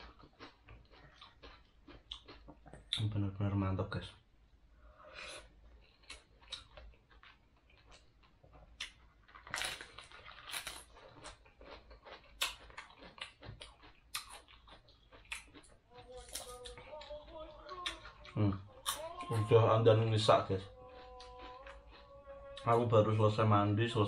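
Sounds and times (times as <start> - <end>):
person chewing crispy food: 0.0 - 3.2, 4.9 - 23.3.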